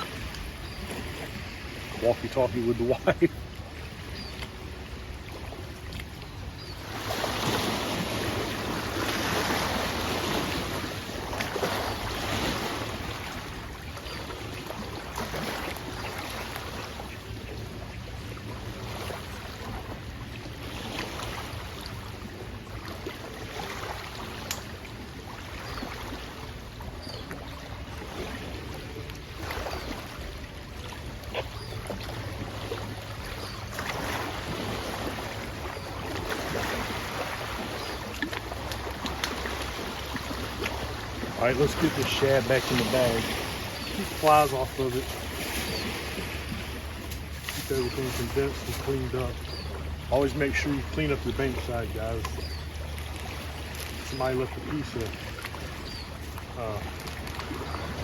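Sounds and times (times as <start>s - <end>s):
small waves lapping: 0.0s - 58.0s
wind: 0.0s - 58.0s.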